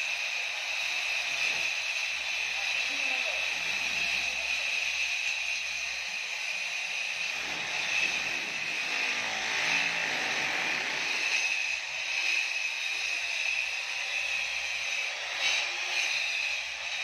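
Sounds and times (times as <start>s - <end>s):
wall chaser grinding brick: 0.0s - 17.0s.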